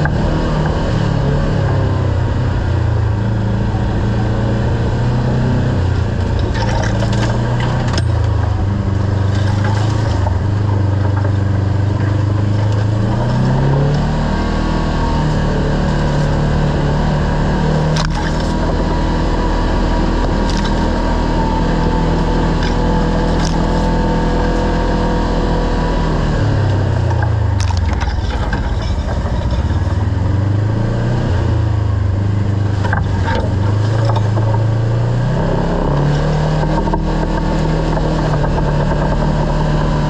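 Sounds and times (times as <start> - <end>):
vehicle engine running: 0.0 - 40.0.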